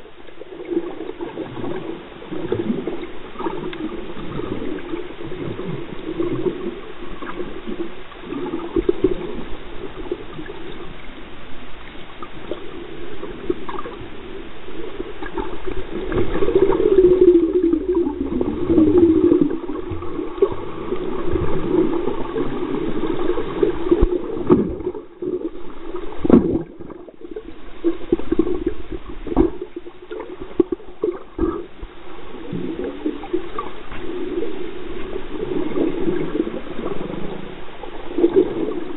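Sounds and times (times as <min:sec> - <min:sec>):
muffled underwater water churning: 0:00.0 - 0:38.9.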